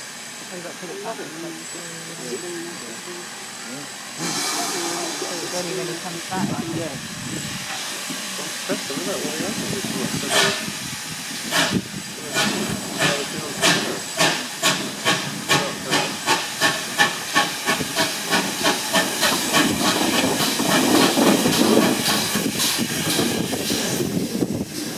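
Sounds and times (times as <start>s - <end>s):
steam hiss: 0.0s - 24.9s
steam locomotive chuffing: 0.0s - 24.9s.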